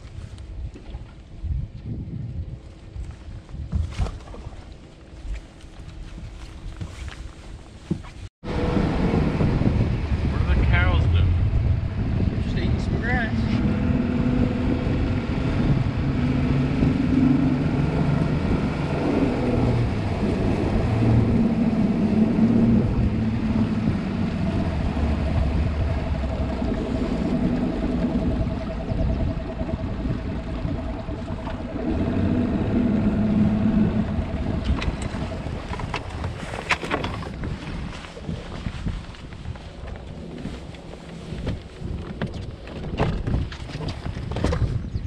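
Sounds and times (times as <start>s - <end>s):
outboard motor rumbling: 0.0s - 45.0s
water noise: 0.0s - 45.0s
wind noise: 0.0s - 45.0s.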